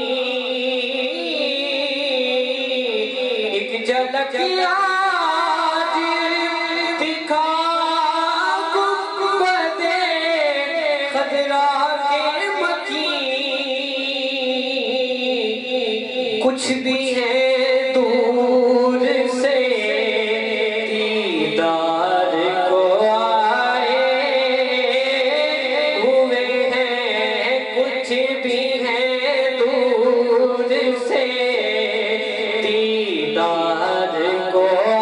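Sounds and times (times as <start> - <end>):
man singing devotional recitation: 0.0 - 35.0.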